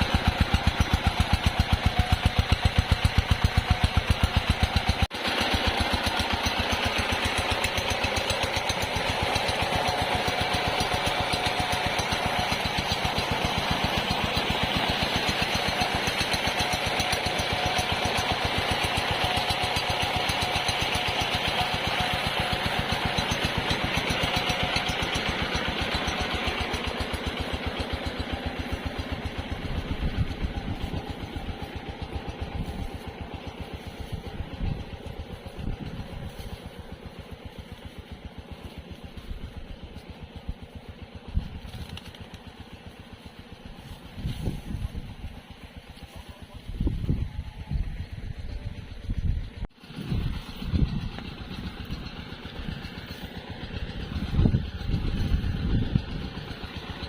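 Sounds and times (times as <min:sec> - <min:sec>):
diesel water pump thudding: 0:00.0 - 0:41.7, 0:49.7 - 0:57.0
engine knocks: 0:00.0 - 0:57.0.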